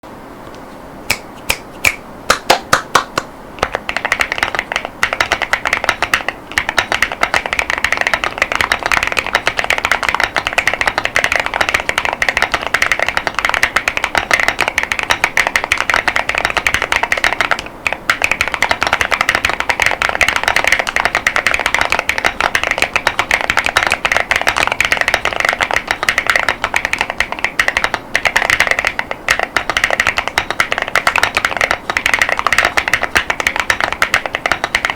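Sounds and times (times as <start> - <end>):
typing on mechanical keyboard: 3.6 - 34.9.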